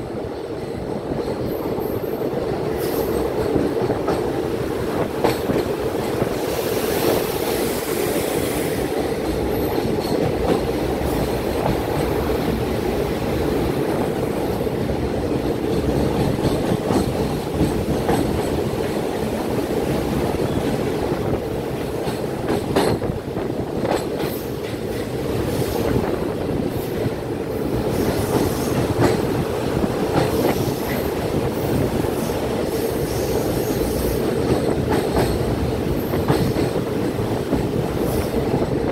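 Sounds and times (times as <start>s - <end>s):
train knocks: 0.0s - 38.9s
train wheels rumbling on rails: 0.0s - 38.9s.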